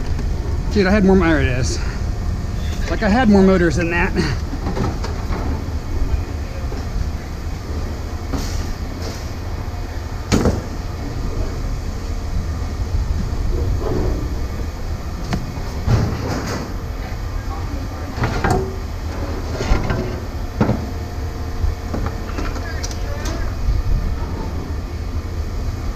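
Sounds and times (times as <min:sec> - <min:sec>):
heavy machinery rumble: 0:00.0 - 0:25.9.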